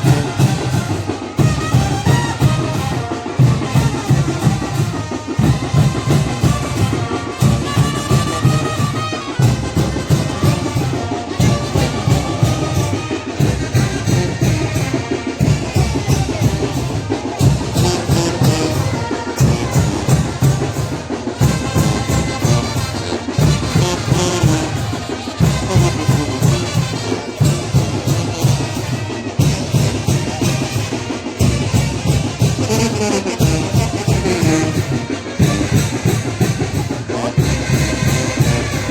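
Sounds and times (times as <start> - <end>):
brass melody: 0.0 - 38.9
drums keeping a driving beat: 0.0 - 38.9.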